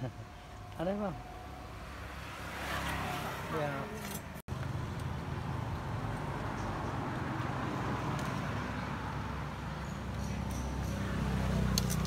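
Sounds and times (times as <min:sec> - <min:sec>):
outdoor background noise: 0:00.0 - 0:12.0
vehicle engine humming: 0:00.0 - 0:12.0.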